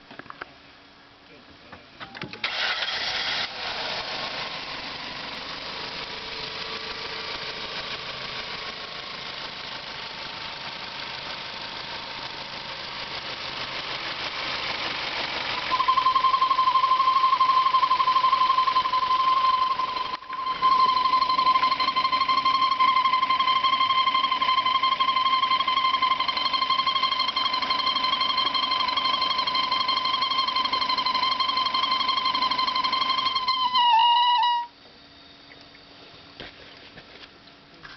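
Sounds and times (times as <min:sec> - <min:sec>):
car engine running: 0:01.8 - 0:37.9
high-pitched engine squeal: 0:02.3 - 0:36.0.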